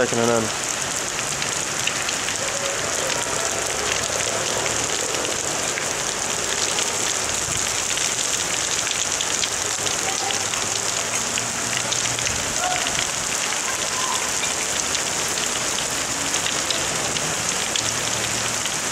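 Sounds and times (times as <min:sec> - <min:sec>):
heavy rain falling: 0:00.0 - 0:18.9.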